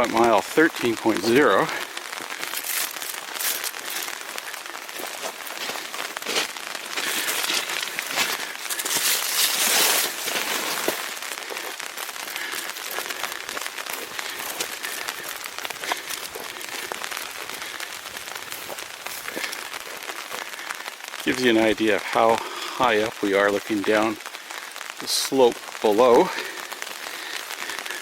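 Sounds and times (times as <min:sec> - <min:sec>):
rain falling on an umbrella: 0:00.0 - 0:28.0.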